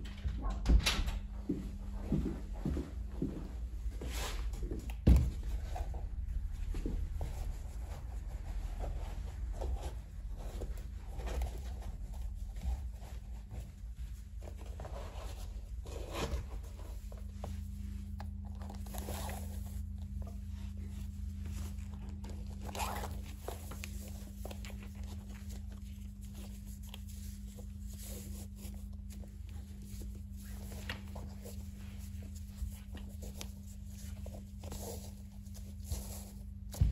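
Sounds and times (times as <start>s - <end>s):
low steady hum: 0.0s - 36.9s
rustling and scraping of boots: 1.5s - 36.9s.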